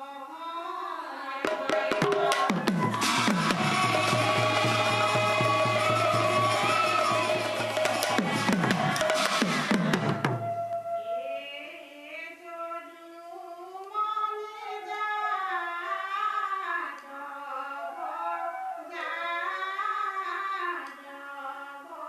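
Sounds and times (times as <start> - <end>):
women singing a hymn: 0.0 - 22.0.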